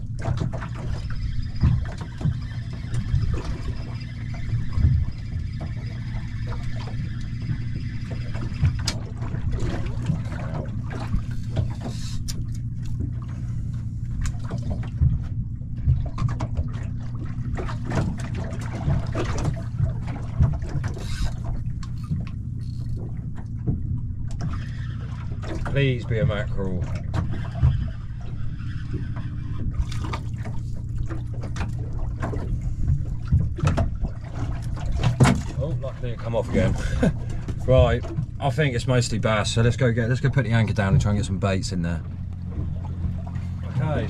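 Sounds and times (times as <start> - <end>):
steady low hum: 0.0 - 44.0
water lapping against boat hull: 0.0 - 44.0.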